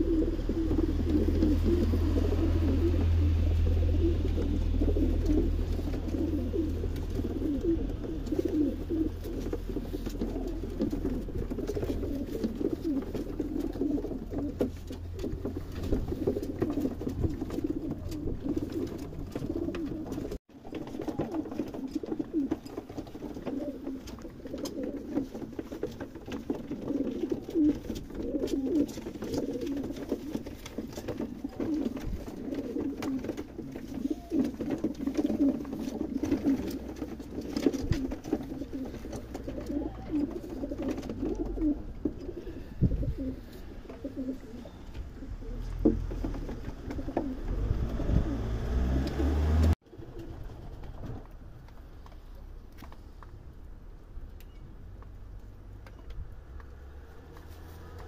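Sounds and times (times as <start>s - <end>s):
pigeons cooing: 0.0s - 51.2s.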